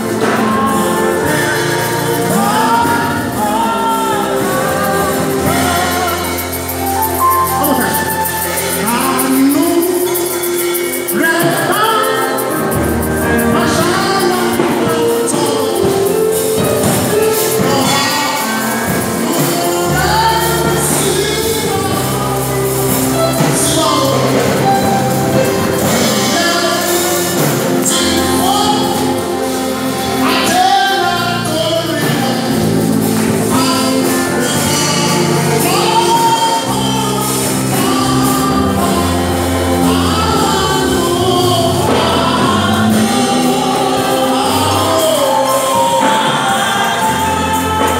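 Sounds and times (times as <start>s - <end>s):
bass notes: 0.0s - 47.9s
choir and congregation singing: 0.0s - 47.9s
percussion beat: 0.0s - 47.9s.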